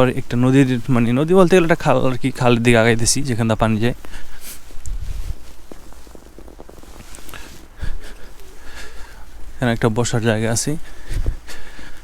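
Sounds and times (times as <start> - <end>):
footsteps crunching in snow: 0.0 - 12.0.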